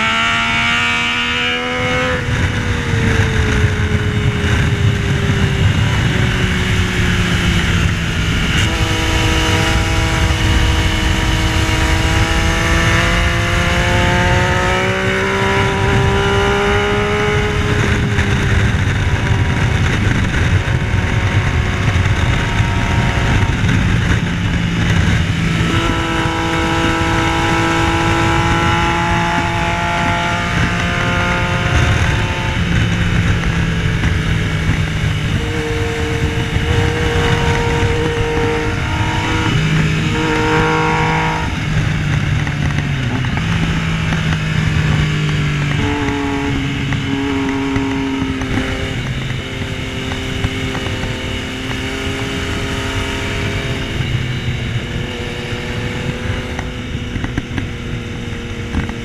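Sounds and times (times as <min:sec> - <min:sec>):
motorcycle engine revving hard: 0:00.0 - 0:59.0
wind rush: 0:00.0 - 0:59.0.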